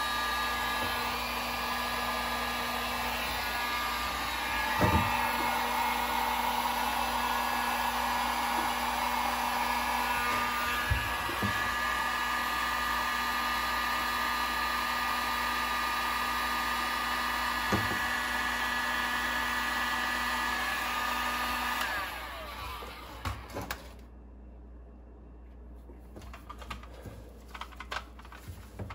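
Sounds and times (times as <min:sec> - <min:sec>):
heat gun fan blowing: 0:00.0 - 0:24.0.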